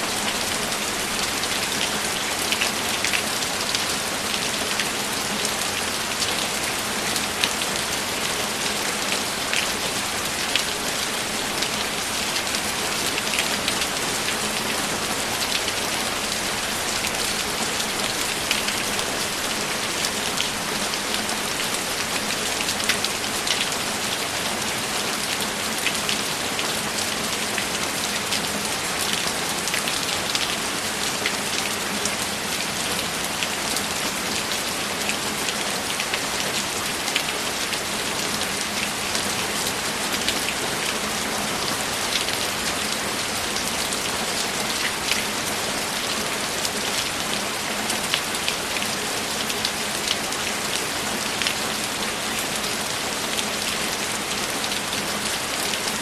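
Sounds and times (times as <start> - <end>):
rain pattering on hard surface: 0.0 - 56.0.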